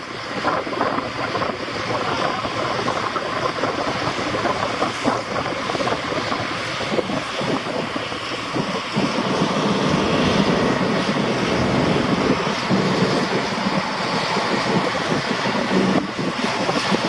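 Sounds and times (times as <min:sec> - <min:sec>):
wind on microphone: 0:00.0 - 0:17.0
vehicle engine running: 0:00.7 - 0:17.0.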